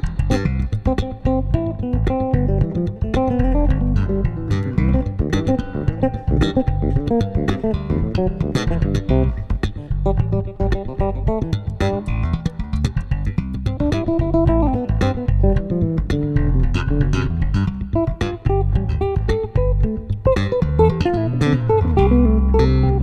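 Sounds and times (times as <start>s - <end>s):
low bass guitar notes: 0.0s - 23.0s
plucked bass guitar melody: 0.0s - 23.0s.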